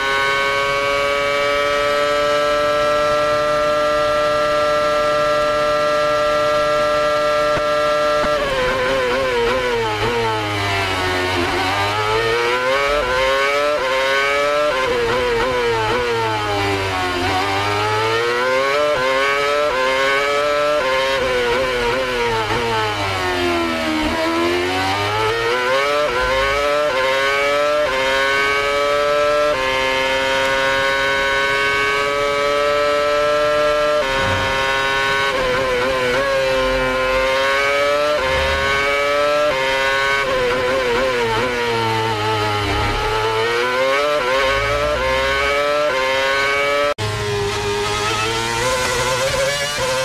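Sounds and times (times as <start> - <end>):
racing car engine revving: 0.0 - 50.0.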